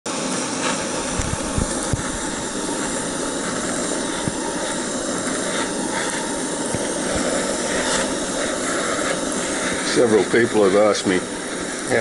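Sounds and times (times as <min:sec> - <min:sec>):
blowtorch hissing: 0:00.0 - 0:12.0.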